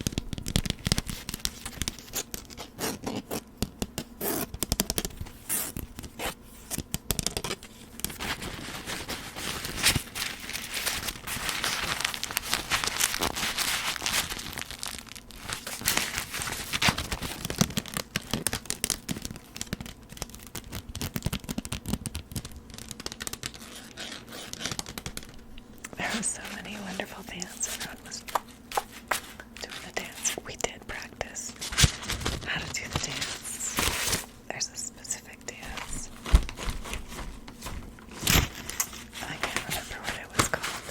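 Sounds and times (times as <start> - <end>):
crinkling and tearing handling: 0.0 - 40.9.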